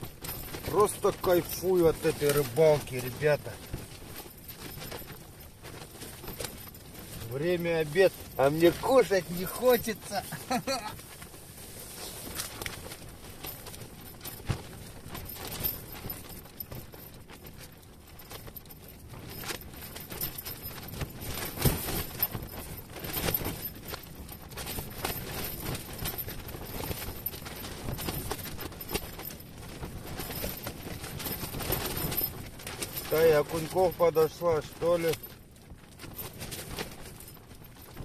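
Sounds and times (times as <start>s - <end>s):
wind flapping tent fabric: 0.0s - 38.0s.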